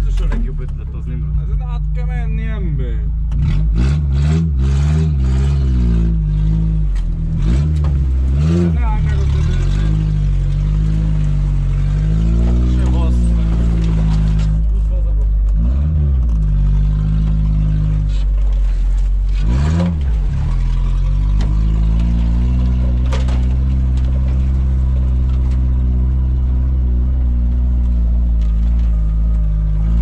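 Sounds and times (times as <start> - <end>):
off-road engine running: 0.0 - 30.0.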